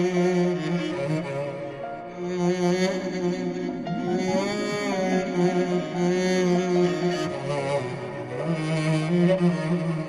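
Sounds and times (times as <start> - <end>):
slow instrumental string music: 0.0 - 10.0.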